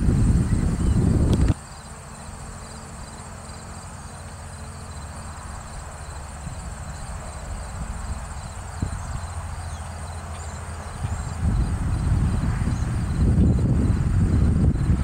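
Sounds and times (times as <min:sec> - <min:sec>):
insects trilling: 0:00.0 - 0:15.0
distant tractor diesel engine: 0:01.1 - 0:15.0.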